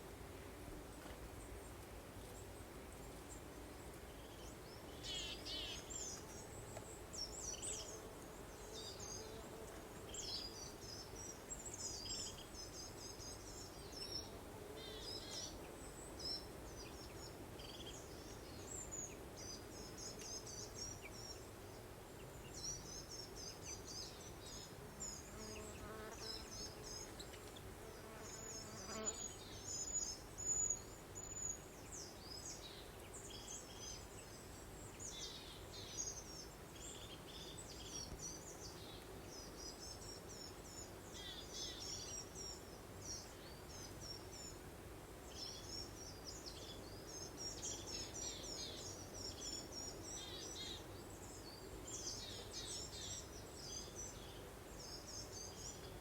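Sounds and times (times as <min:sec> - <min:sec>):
songbirds chirping and warbling: 0:02.4 - 0:56.0.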